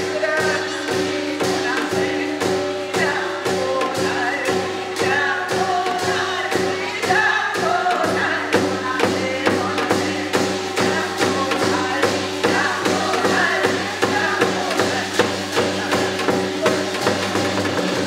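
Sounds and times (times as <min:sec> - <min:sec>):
percussion beat: 0:00.0 - 0:18.0
person singing: 0:00.0 - 0:18.0.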